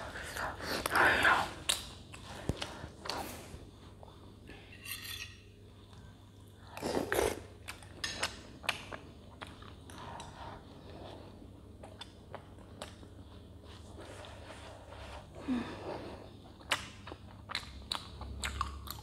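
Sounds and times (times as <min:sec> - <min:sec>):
mouth chewing soft food: 0:00.2 - 0:04.3, 0:05.8 - 0:15.3, 0:16.2 - 0:19.0.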